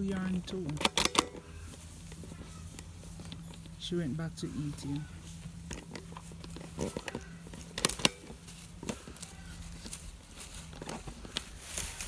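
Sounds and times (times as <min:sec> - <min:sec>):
cow chewing and crunching: 0:00.0 - 0:12.0.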